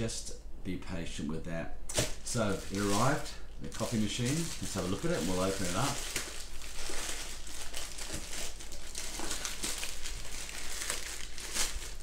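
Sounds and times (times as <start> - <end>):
plastic mailer bag crinkling: 2.0 - 12.0.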